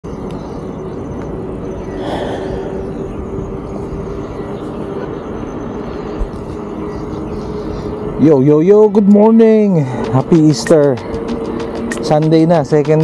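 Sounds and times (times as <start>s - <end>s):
bicycle road noise: 0.0s - 13.0s
steady low hum: 0.0s - 13.0s
wind rumbling on microphone: 0.1s - 13.0s.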